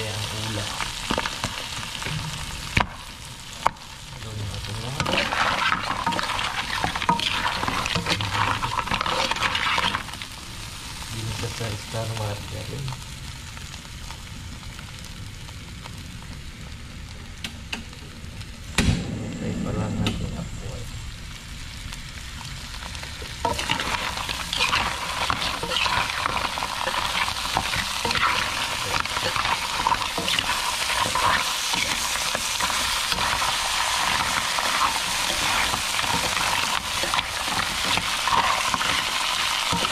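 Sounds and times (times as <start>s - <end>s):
crab sizzling in frying pan: 0.0s - 39.9s.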